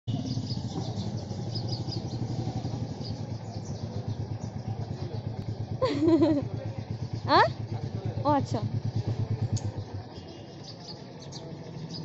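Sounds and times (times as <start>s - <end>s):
motorcycle engine running at low revs: 0.1s - 12.0s.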